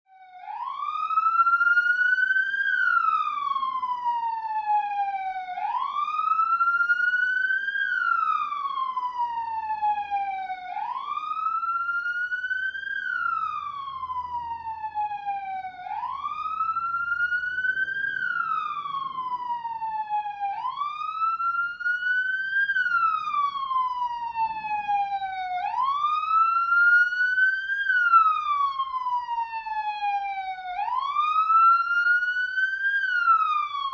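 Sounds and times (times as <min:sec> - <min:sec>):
police siren wailing: 0:00.1 - 0:33.9.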